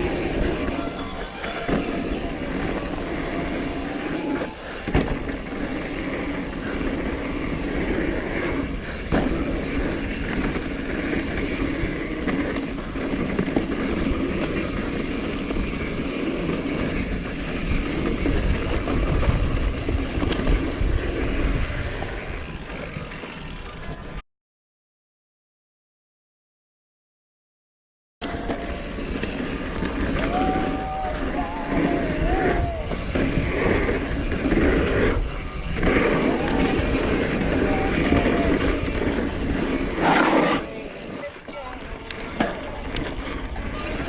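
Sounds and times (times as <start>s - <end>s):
wind rumbling on microphone: 0.0s - 23.1s, 28.6s - 41.3s
bike tyre noise and rattling: 0.0s - 24.2s, 28.2s - 44.0s.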